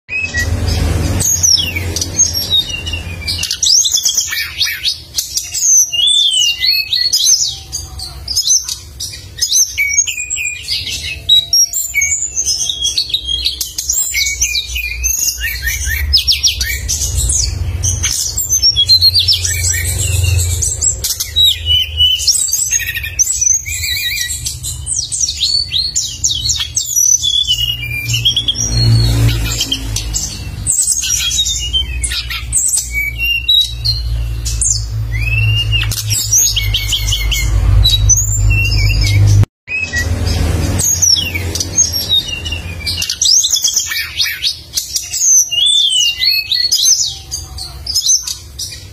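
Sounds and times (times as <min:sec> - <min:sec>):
songbird chirping and trilling: 0:00.1 - 0:48.9.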